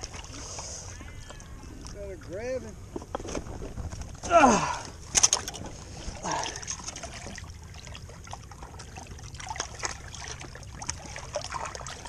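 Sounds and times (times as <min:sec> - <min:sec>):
water lapping among rocks: 0:00.0 - 0:12.0.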